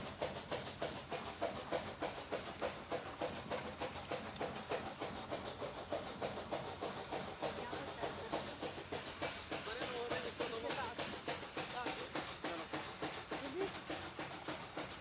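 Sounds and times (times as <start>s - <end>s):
dog panting fast: 0.0s - 15.0s.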